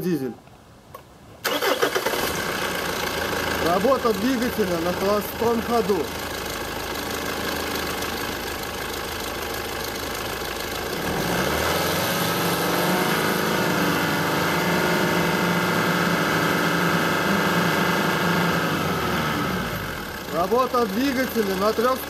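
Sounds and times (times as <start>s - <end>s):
diesel engine idling and revving: 1.5s - 22.0s.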